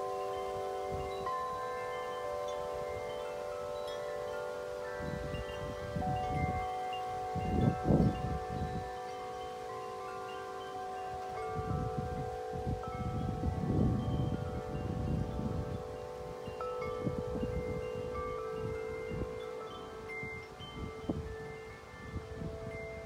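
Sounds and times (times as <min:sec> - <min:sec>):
wind chime ringing: 0:00.0 - 0:23.0
wind gusts on microphone: 0:00.0 - 0:23.0.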